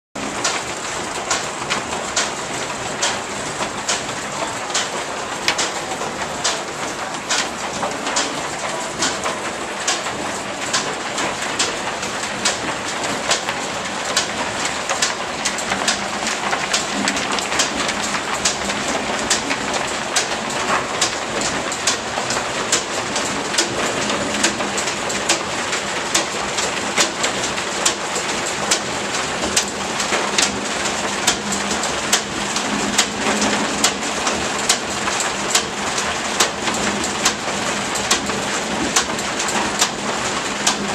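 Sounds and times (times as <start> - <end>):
drive belts rushing over pulleys: 0.2 - 40.9
regular sharp clicks: 0.4 - 40.8.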